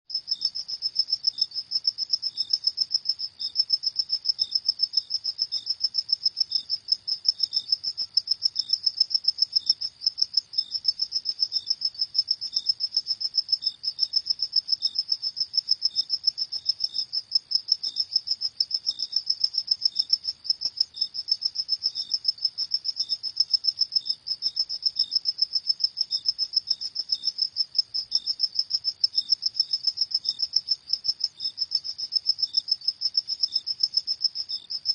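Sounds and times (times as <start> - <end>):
crickets chirping: 0.1 - 34.9.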